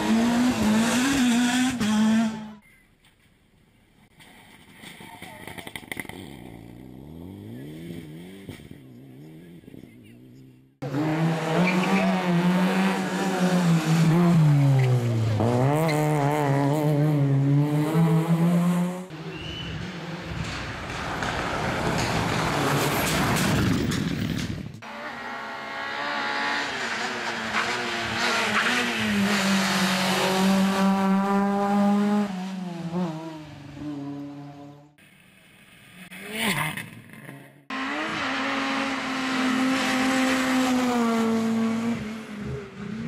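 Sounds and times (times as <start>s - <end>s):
rally car engines revving: 0.0s - 2.6s, 5.5s - 23.9s, 24.8s - 35.0s, 36.0s - 43.0s.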